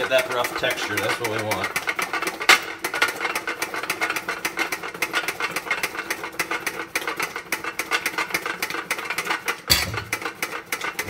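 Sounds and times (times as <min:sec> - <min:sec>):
potatoes rattling in metal colander: 0:00.0 - 0:11.0.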